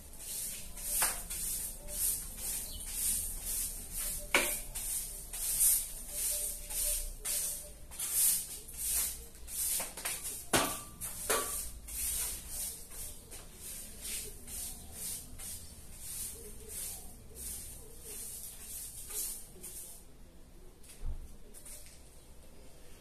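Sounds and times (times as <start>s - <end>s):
broom sweeping concrete floor: 0.0s - 20.3s, 21.5s - 22.0s.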